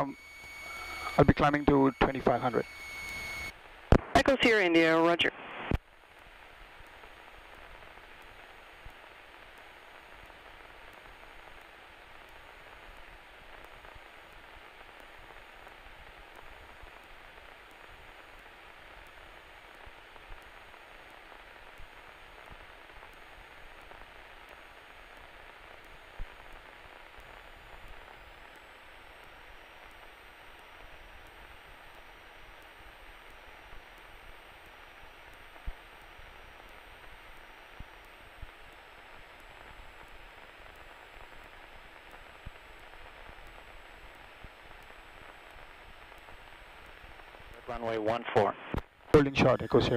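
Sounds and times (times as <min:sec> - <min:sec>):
faint steady hum: 0:00.0 - 0:49.9
radio static hiss: 0:00.0 - 0:49.9.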